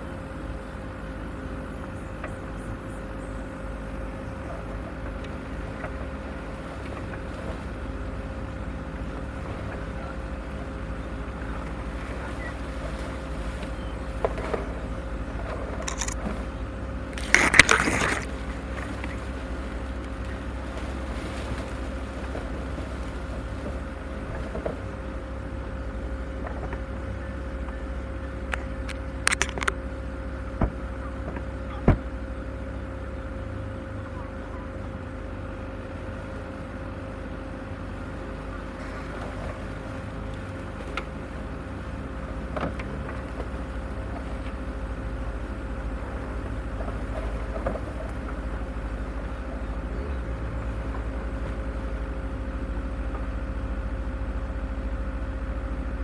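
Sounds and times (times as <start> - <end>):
off-road vehicle rumble: 0.0 - 56.0.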